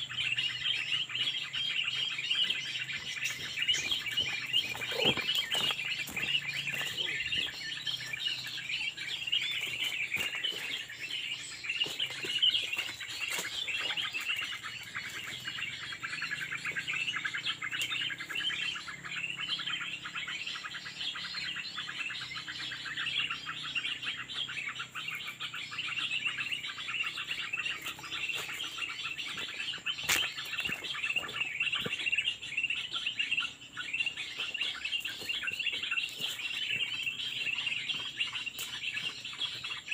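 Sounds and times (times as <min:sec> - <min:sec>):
fast rattling bird trill: 0:00.0 - 0:39.9
small birds chirping: 0:00.0 - 0:39.9.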